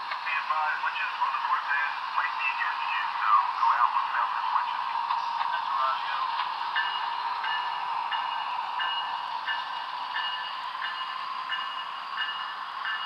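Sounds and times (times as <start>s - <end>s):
model locomotive diesel sounds: 0.0s - 13.0s.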